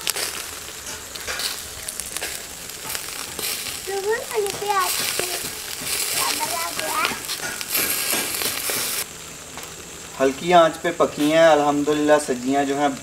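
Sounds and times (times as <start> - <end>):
oil sizzling on hot charcoal: 0.0 - 13.0.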